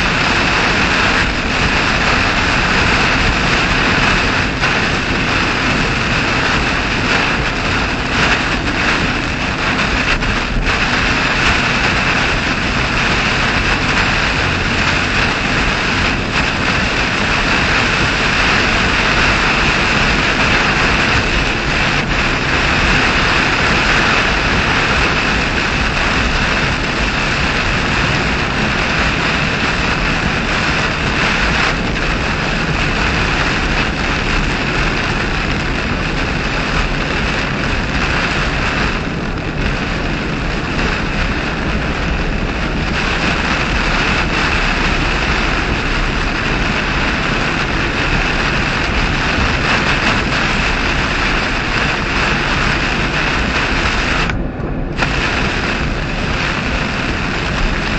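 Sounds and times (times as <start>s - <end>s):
rain pelting car windshield: 0.0s - 57.9s
tyre noise on wet road: 0.0s - 57.9s.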